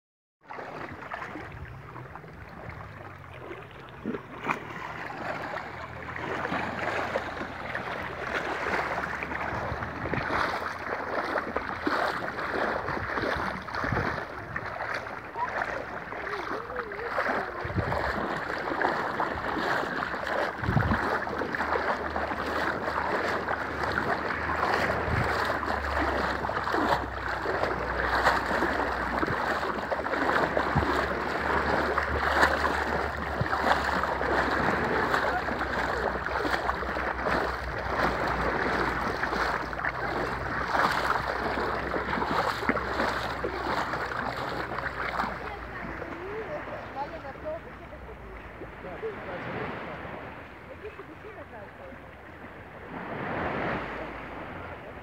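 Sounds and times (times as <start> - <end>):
bare feet wading splashes: 0.4 - 55.0
shallow water lapping: 0.4 - 55.0
wind rumbling on microphone: 0.6 - 55.0.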